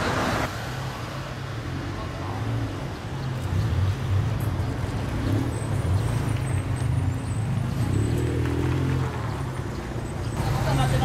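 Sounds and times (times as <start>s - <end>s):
car engines and exhausts droning: 0.0s - 11.0s.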